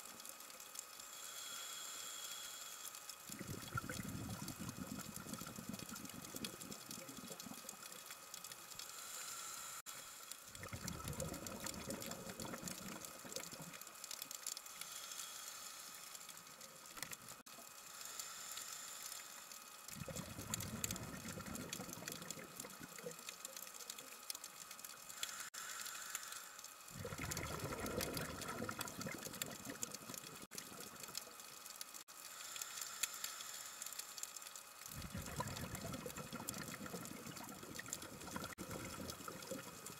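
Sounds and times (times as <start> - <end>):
underwater hiss with crackling: 0.0 - 39.9.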